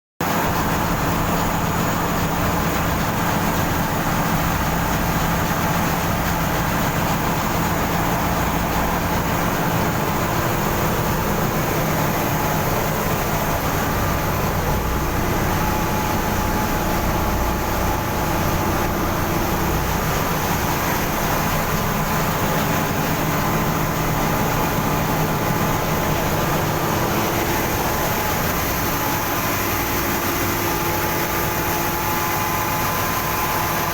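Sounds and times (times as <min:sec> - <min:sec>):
machinery hum: 0:00.2 - 0:33.9.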